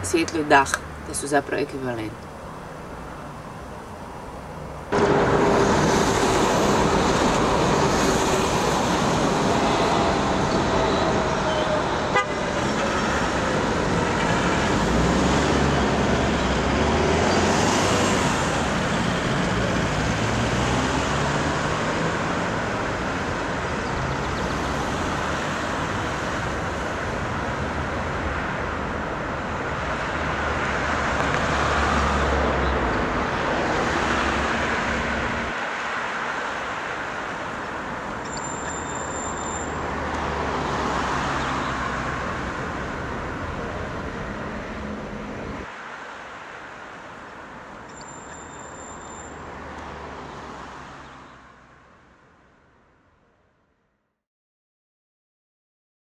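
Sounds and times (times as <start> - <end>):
passing vehicles: 0.0 - 53.5.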